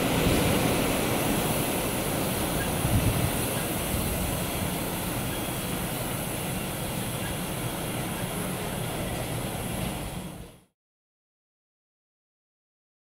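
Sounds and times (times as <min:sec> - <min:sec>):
train wheels rumbling on rails: 0:00.0 - 0:10.7.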